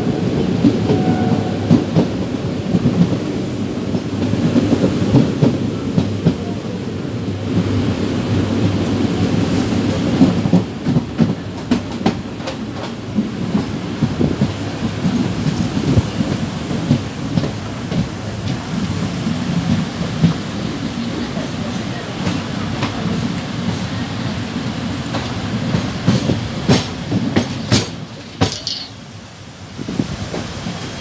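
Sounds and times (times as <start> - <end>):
train wheels rumbling on rails: 0.0 - 31.0
rail joint clicks and knocks: 0.1 - 6.7, 10.1 - 29.2.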